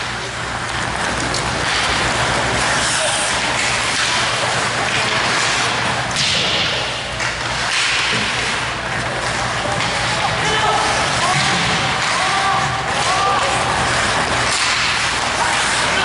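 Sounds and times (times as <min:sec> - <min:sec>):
hockey sticks and puck knocking: 0:00.0 - 0:16.0
skates scraping ice: 0:00.0 - 0:16.0.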